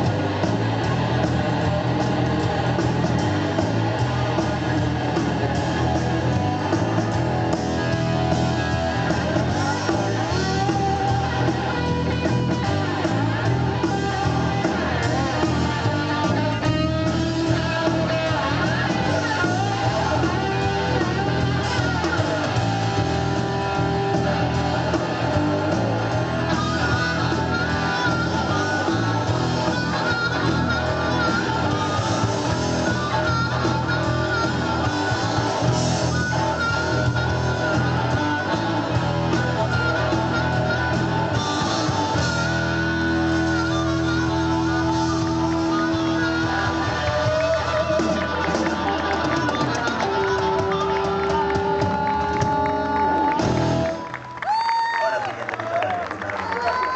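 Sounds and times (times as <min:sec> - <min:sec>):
blues-rock band playing: 0:00.0 - 0:56.9
electric guitar: 0:00.0 - 0:56.9.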